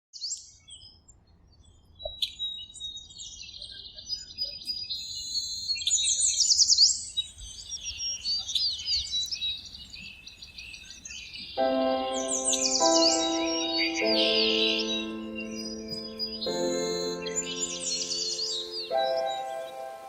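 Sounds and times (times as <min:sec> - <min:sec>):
birds singing and chirping: 0:02.0 - 0:20.0.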